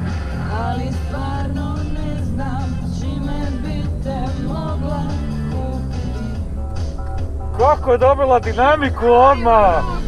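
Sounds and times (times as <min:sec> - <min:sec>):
song with guitar on car radio: 0:00.0 - 0:10.0.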